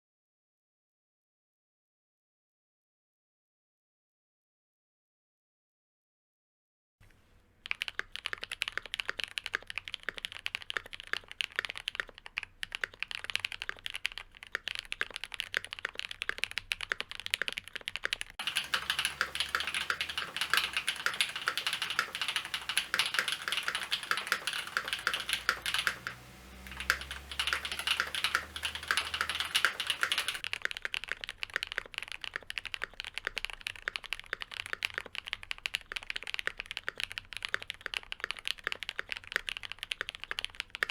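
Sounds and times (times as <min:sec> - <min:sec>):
mechanical keyboard typing: 0:07.7 - 0:40.9.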